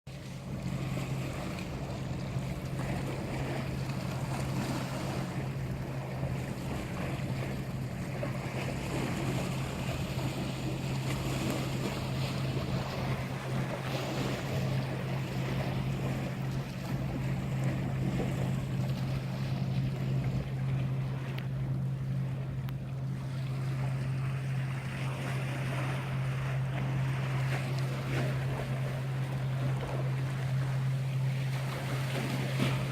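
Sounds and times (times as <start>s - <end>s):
boat engine droning: 0.1s - 32.9s
sea noise: 0.1s - 32.9s
wind: 0.1s - 32.9s.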